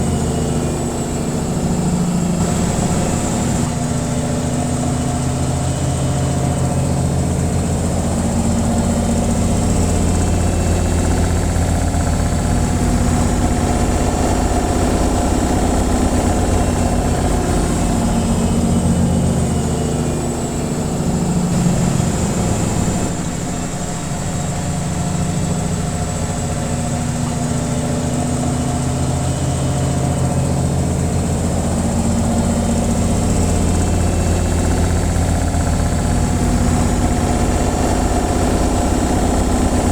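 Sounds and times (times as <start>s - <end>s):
washing machine spin cycle: 0.0s - 39.9s.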